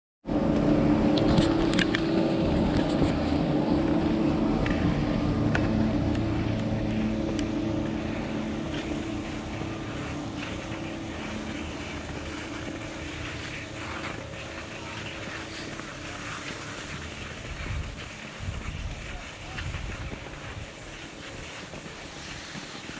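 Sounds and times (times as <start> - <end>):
chairlift machinery hum: 0.3 - 22.9
skis sliding on snow: 1.2 - 22.9.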